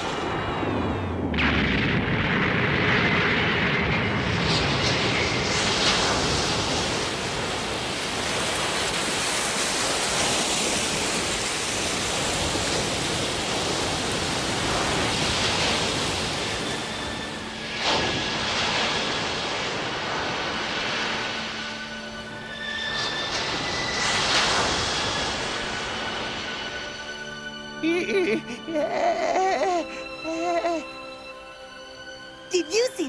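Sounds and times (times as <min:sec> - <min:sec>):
energy blast rushing noise: 0:00.0 - 0:26.9.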